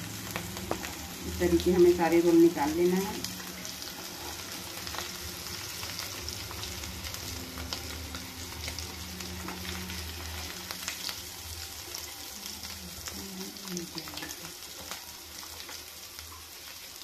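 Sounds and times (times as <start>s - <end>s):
hot oil sizzling and crackling: 0.0s - 17.0s.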